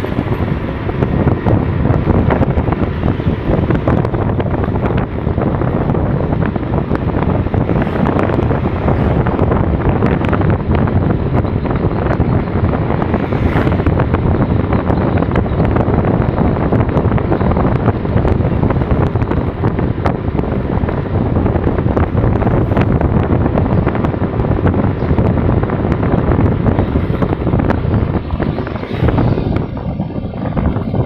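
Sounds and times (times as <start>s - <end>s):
motorcycle engine running: 0.0s - 31.0s
road noise: 0.0s - 31.0s
wind buffeting microphone: 0.0s - 31.0s.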